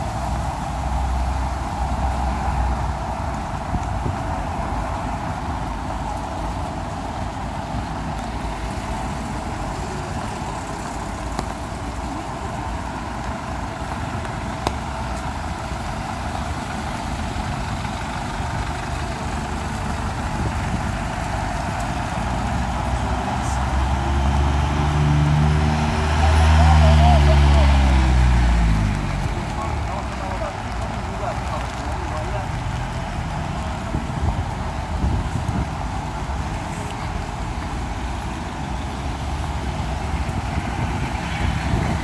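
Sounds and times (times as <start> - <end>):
rain hissing: 0.0 - 42.0
traffic on wet street: 0.0 - 42.0.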